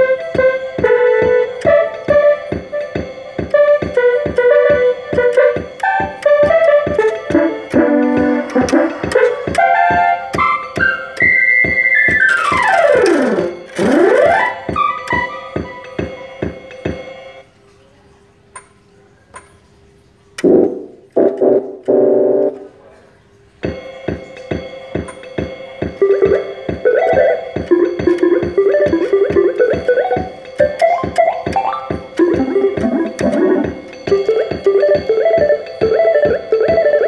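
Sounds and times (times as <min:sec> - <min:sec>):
keyboard and synthesizer music: 0:00.0 - 0:17.4, 0:20.4 - 0:22.8, 0:23.9 - 0:37.0.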